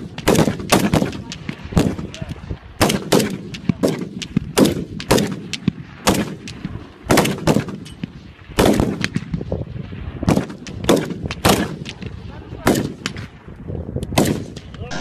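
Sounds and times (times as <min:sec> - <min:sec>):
rifle shots with echo: 0:00.0 - 0:09.5, 0:10.2 - 0:13.4, 0:14.1 - 0:15.0.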